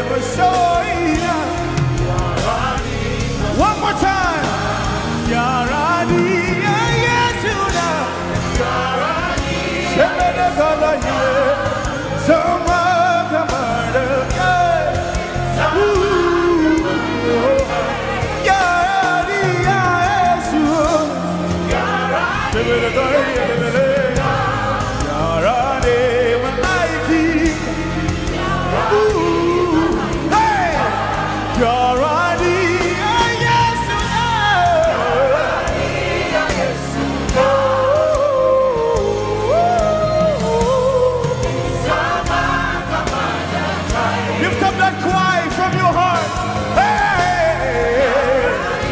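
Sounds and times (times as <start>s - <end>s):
gospel vocals with ornamented lines: 0.0s - 48.9s
steady instrumental backing: 0.0s - 48.9s.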